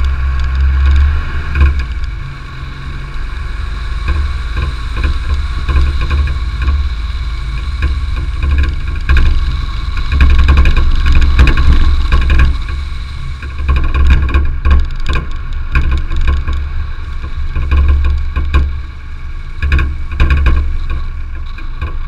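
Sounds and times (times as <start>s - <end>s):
car engine running: 0.0s - 22.0s
tyres rumbling on gravel: 0.0s - 22.0s.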